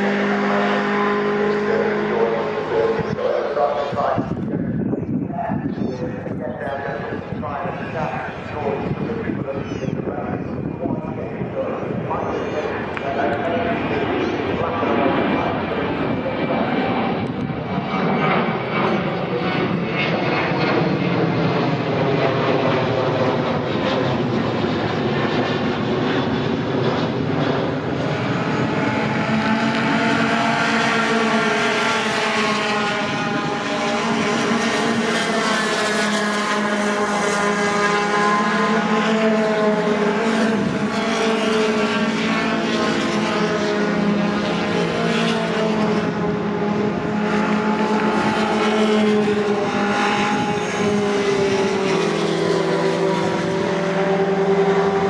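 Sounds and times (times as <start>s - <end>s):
racing truck engines: 0.0s - 4.5s, 5.9s - 55.0s.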